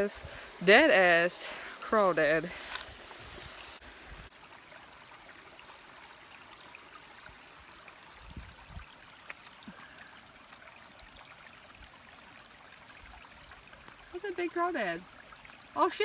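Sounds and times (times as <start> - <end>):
stream trickling over stones: 0.0 - 16.0.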